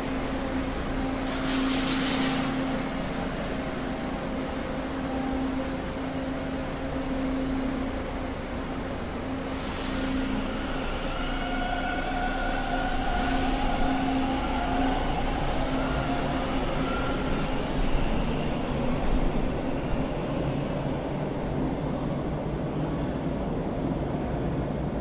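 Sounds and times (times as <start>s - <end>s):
subway train rumble: 0.0s - 25.0s.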